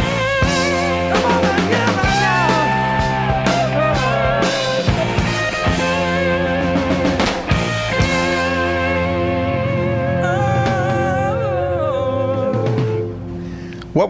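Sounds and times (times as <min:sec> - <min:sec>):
rock song with guitar and drums: 0:00.0 - 0:13.8.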